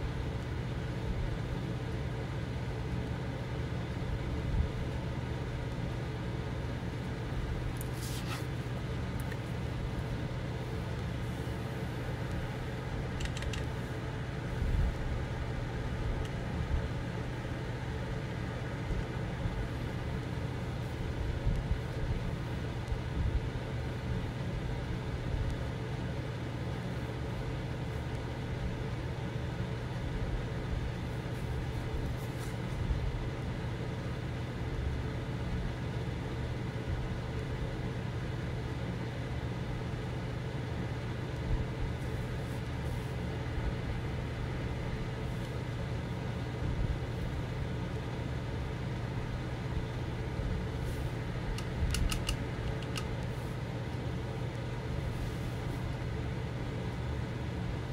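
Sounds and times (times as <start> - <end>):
low mechanical hum: 0.0 - 57.9.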